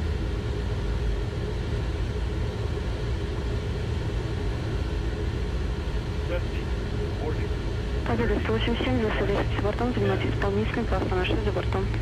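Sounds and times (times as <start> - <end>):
faint steady hum: 0.0 - 12.0
low rumble: 0.0 - 12.0.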